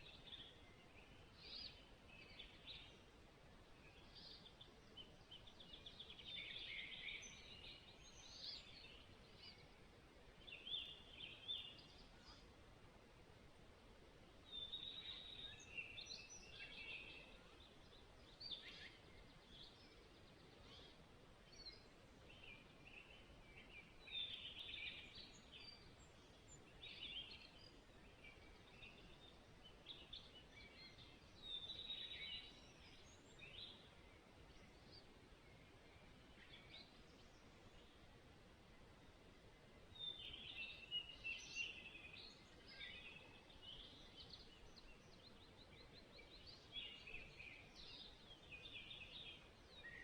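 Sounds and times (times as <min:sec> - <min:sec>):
songbirds singing and chirping: 0:00.0 - 0:50.0.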